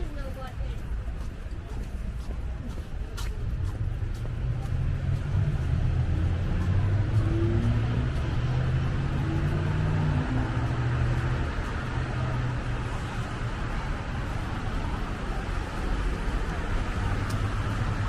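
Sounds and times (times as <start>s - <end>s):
road traffic noise: 0.0s - 18.0s
vehicle engine humming: 1.2s - 18.0s.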